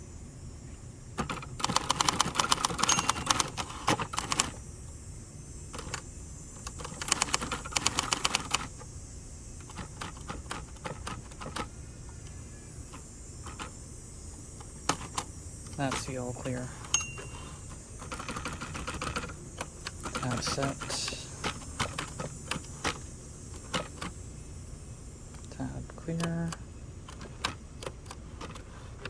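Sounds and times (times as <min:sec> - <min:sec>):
typewriter keystrokes: 0:01.2 - 0:04.6, 0:05.7 - 0:08.9, 0:09.6 - 0:13.8, 0:14.6 - 0:24.2, 0:25.3 - 0:29.0.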